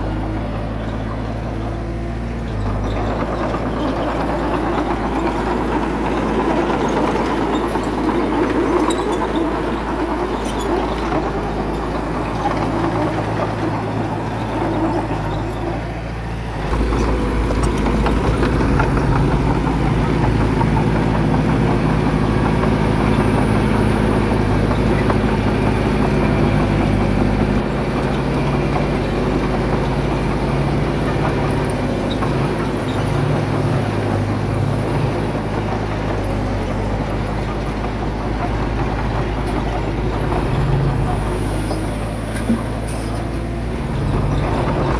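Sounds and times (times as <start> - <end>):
heavy machinery diesel engine: 0.0 - 44.9.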